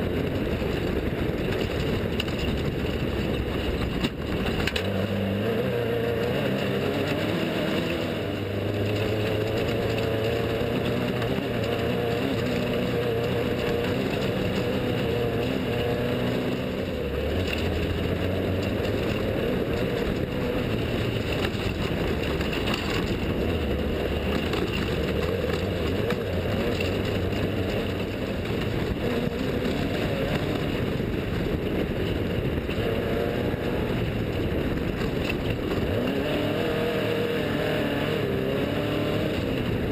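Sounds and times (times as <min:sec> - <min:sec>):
constant rush of noise: 0:00.0 - 0:39.9
race vehicle engine revving: 0:00.0 - 0:39.9.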